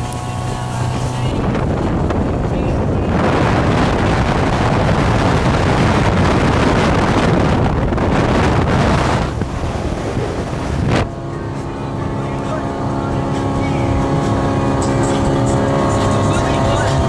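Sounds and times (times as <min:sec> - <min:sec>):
motorboat engine: 0:00.0 - 0:17.0
rushing water: 0:00.0 - 0:17.0
wind noise on microphone: 0:00.0 - 0:17.0.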